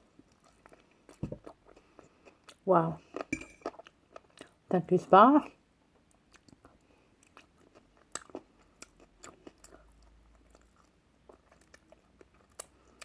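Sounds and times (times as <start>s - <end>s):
person chewing food: 0.0s - 4.7s, 5.9s - 13.0s.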